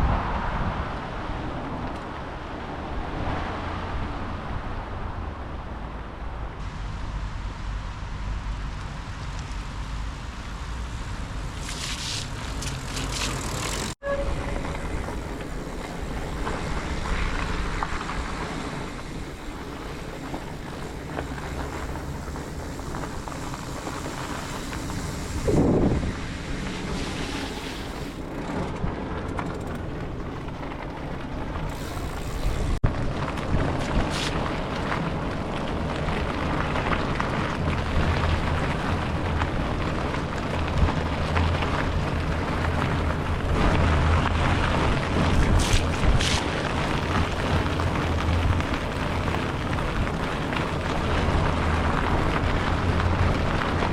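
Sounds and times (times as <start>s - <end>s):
bicycle tyre noise on path: 0.0s - 53.9s
wind rumbling on microphone: 0.0s - 53.9s.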